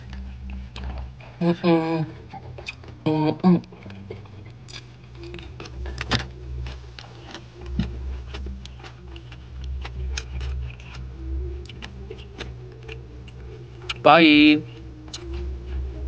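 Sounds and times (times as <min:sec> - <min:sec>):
person chewing rice: 0:00.0 - 0:01.4, 0:02.1 - 0:16.0.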